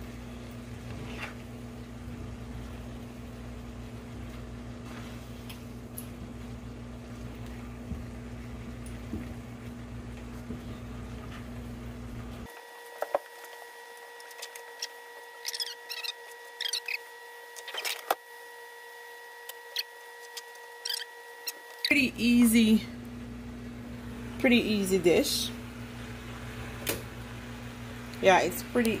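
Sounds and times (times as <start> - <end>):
steady low hum: 0.0 - 12.6, 13.2 - 29.0.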